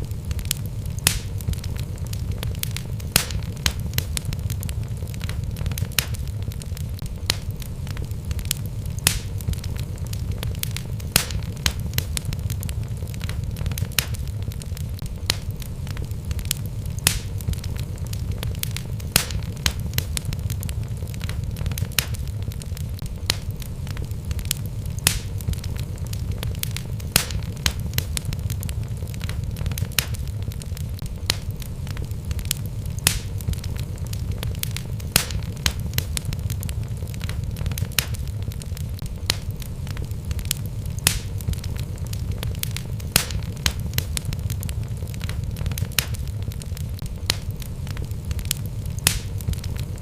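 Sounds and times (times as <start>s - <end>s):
low rumble of flames: 0.0s - 50.0s
wood logs crackling in fireplace: 0.0s - 50.0s.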